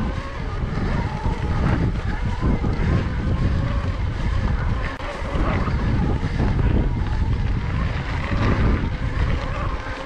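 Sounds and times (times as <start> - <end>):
bike trail noise: 0.0 - 10.0
faint steady whine: 0.0 - 10.0
wind buffeting microphone: 0.0 - 10.0.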